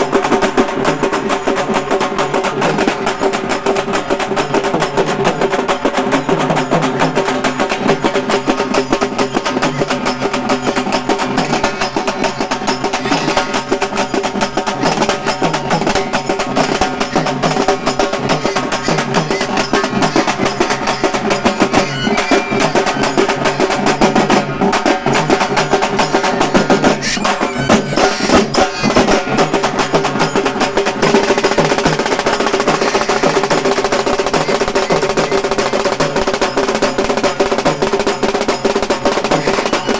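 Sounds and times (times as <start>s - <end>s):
frame drums struck with sticks: 0.0s - 39.9s.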